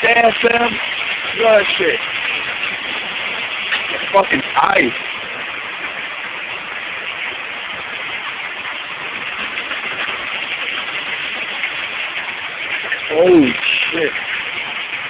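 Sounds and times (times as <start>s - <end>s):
hail rattling on surfaces: 0.0s - 15.0s
rain: 0.0s - 15.0s.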